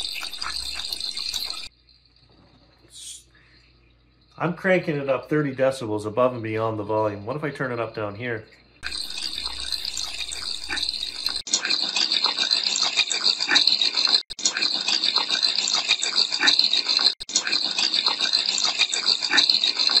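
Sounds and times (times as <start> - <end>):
tap water running: 0.0 - 20.0.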